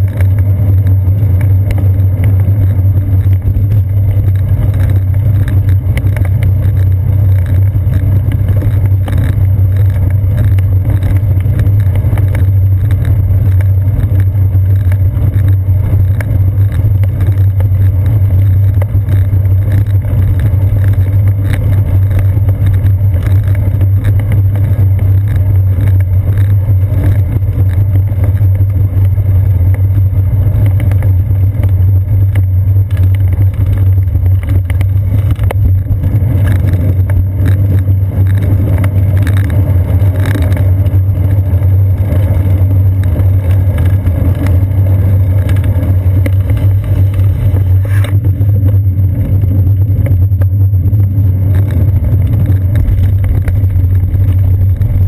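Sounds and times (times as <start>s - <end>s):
bicycle tyres on brick street: 0.0s - 55.0s
wind noise: 0.0s - 55.0s.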